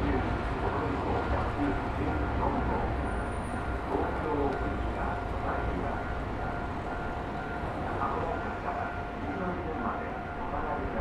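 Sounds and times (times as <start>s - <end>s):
distant public-address announcement: 0.0s - 11.0s.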